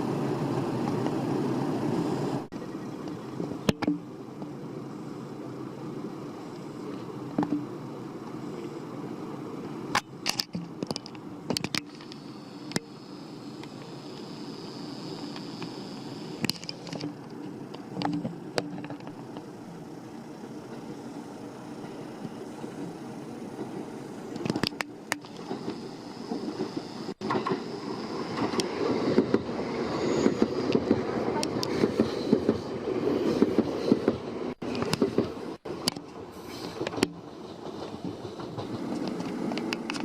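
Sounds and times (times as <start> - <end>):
electric train running past: 0.0 - 40.0
wheels rumbling on rails: 0.0 - 40.0.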